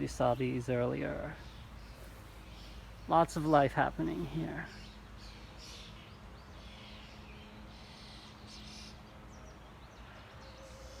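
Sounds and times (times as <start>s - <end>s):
songbirds chirping and singing: 0.0s - 11.0s.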